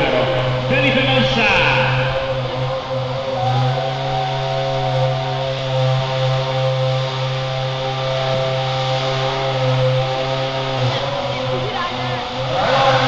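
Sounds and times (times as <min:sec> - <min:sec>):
race car engine idling: 0:00.0 - 0:13.0.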